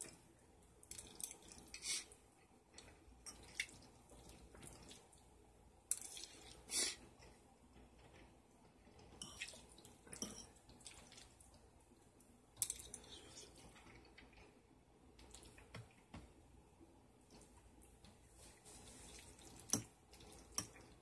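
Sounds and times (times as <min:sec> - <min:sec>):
soft chewing: 0:00.0 - 0:16.1, 0:17.2 - 0:21.0.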